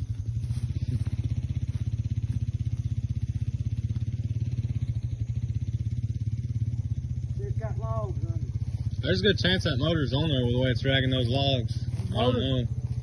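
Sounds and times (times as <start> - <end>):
engine throbbing under load: 0.0 - 13.0.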